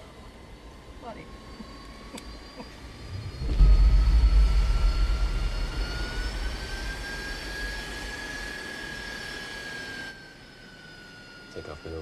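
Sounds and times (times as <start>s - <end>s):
deep jet engine rumble: 0.0s - 10.2s
jet engine whine: 0.0s - 12.0s.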